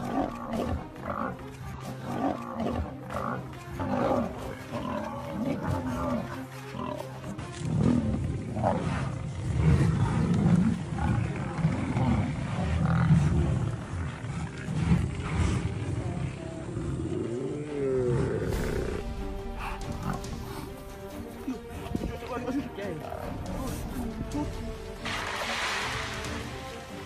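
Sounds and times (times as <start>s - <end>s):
lions growling and snarling: 0.0s - 27.0s.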